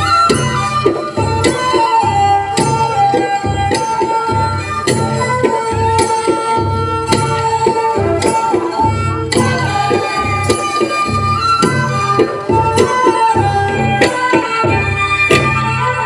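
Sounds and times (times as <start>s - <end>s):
drum beating steady rhythm: 0.0s - 16.0s.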